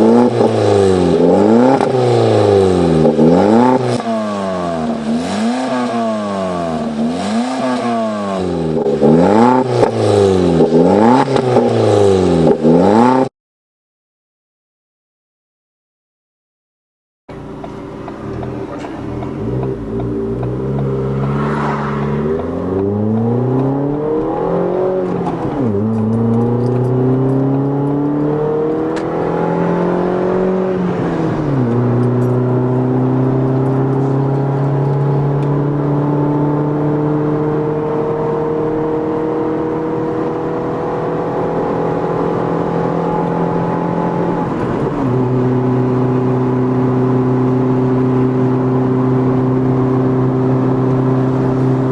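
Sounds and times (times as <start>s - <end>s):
car engine accelerating: 0.0s - 13.3s, 17.3s - 51.9s.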